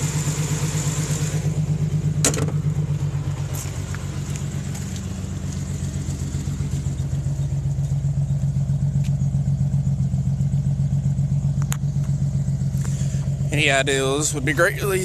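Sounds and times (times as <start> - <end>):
car engine misfiring: 0.0 - 15.0.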